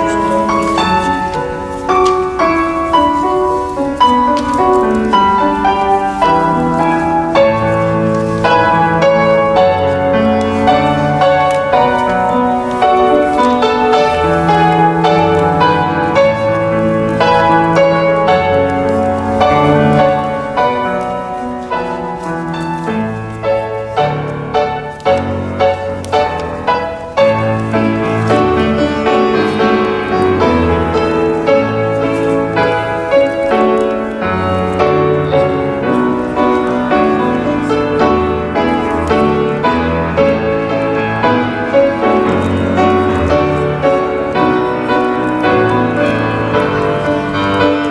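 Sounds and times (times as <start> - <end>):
piano playing slow chords: 0.0 - 47.9.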